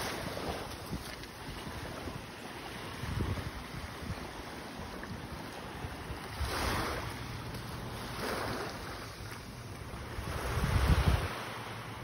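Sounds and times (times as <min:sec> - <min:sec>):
small waves washing onto beach: 0:00.0 - 0:12.0
wind rumbling on microphone: 0:00.0 - 0:12.0.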